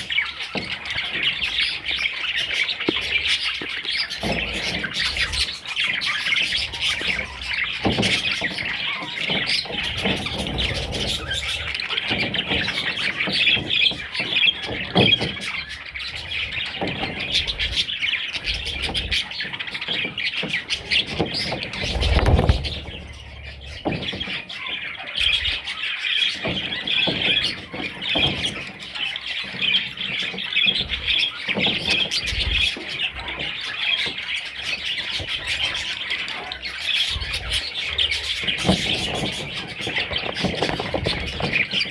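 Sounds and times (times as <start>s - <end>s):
budgerigars chirping and squawking: 0.0s - 41.9s.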